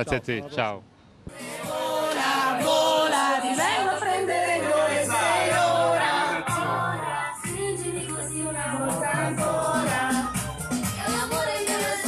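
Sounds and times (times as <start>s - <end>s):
group singing in chorus: 1.3s - 12.0s.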